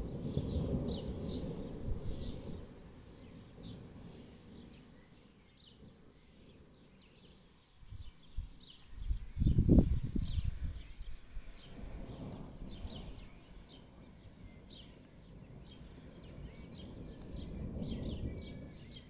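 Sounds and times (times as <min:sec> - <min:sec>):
distant thunder rumbling: 0:00.0 - 0:08.5, 0:09.1 - 0:19.0.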